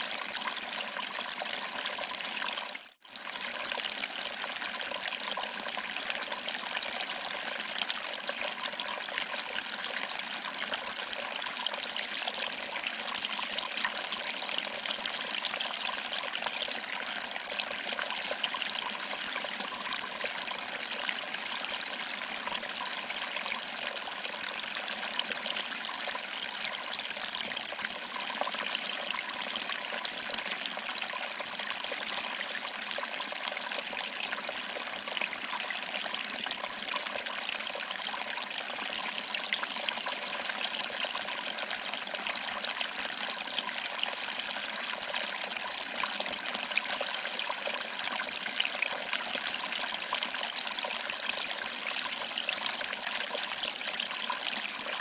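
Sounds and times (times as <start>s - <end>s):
water trickling over rocks: 0.0s - 55.0s.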